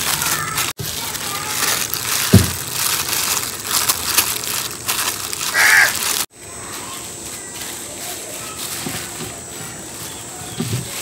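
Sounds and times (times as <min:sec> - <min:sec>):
plastic bags crinkling and squelching: 0:00.0 - 0:11.0.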